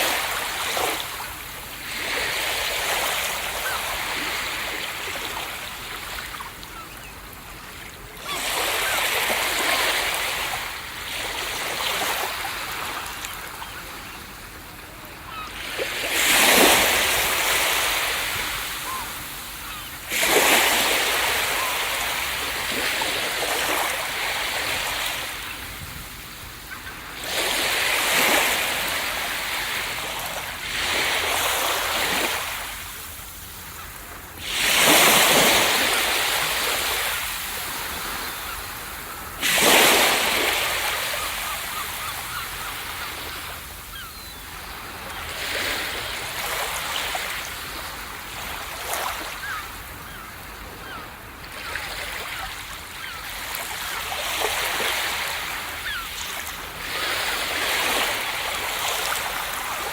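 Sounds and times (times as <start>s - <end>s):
ocean waves breaking on a beach: 0.0s - 59.9s.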